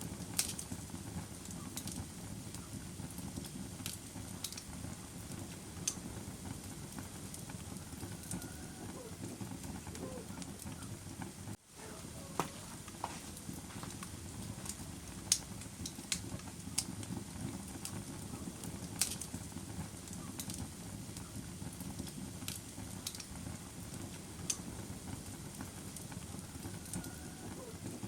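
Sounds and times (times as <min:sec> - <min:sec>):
fire crackling and popping: 0:00.0 - 0:28.0
low rumble of burning: 0:00.0 - 0:28.0.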